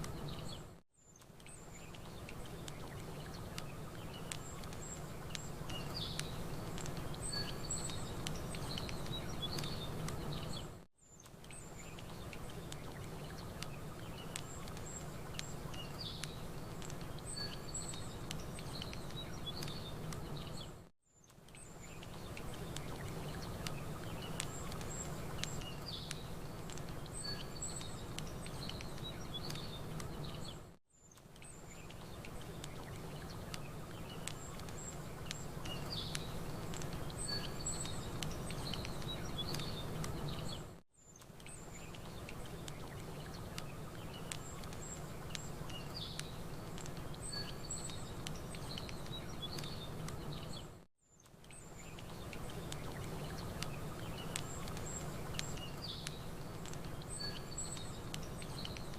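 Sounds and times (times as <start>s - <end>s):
songbirds chirping: 0.0s - 58.9s
campfire crackling and popping: 1.1s - 58.9s.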